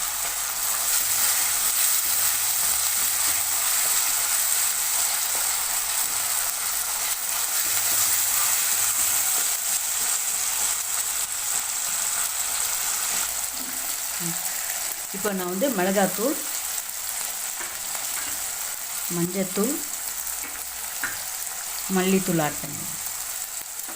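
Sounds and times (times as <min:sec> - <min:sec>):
food sizzling in hot oil: 0:00.0 - 0:23.9.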